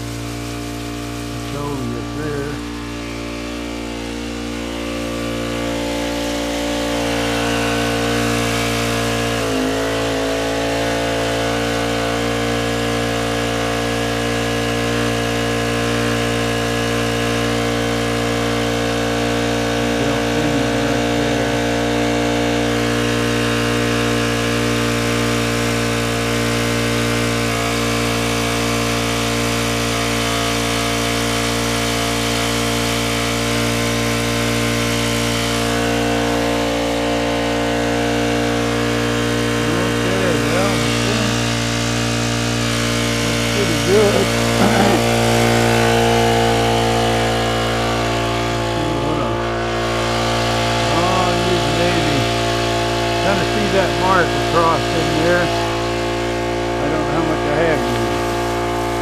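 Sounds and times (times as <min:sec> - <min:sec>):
water pump engine humming: 0:00.0 - 0:59.0.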